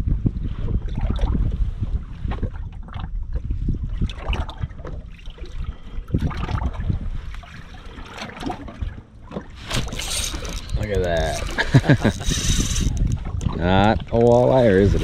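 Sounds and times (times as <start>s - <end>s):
waves lapping against hull: 0.0s - 15.0s
wind buffeting microphone: 0.0s - 15.0s.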